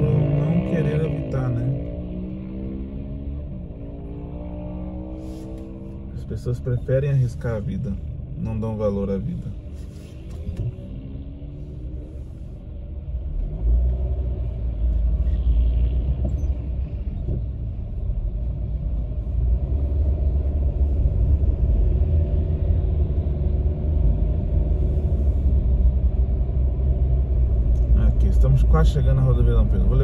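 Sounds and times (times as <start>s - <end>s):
car engine and road rumble: 0.0s - 30.0s.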